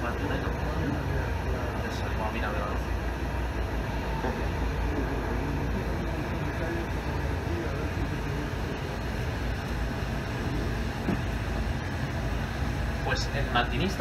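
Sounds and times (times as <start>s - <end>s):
faint voices: 0.0s - 14.0s
train rumble inside coach: 0.0s - 14.0s.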